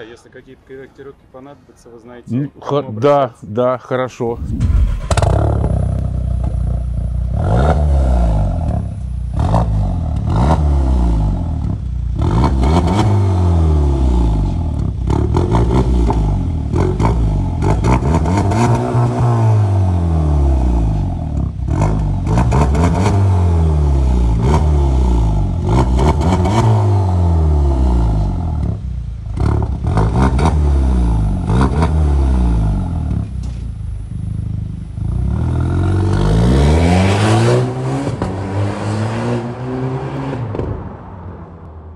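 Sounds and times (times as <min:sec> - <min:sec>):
car engine revving: 0:04.3 - 0:33.3, 0:34.2 - 0:41.0.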